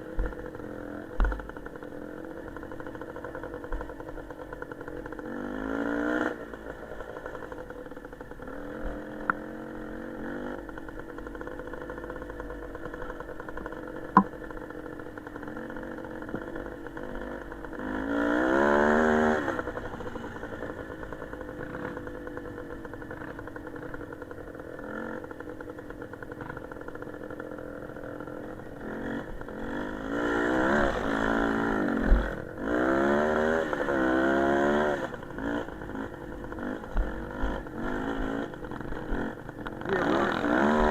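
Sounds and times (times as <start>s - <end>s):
small motorcycle engine revving: 0.0s - 40.9s.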